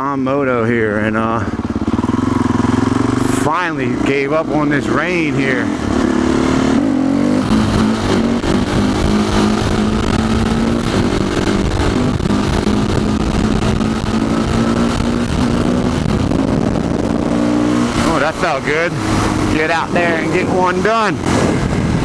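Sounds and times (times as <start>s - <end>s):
motorcycle engine running: 0.0s - 22.0s
rush of noise: 1.5s - 22.0s.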